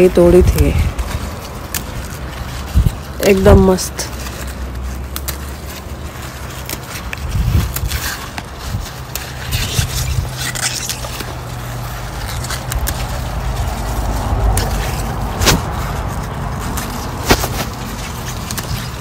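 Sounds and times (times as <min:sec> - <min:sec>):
leaves rustling: 0:00.0 - 0:19.0
stems snapping: 0:00.0 - 0:19.0.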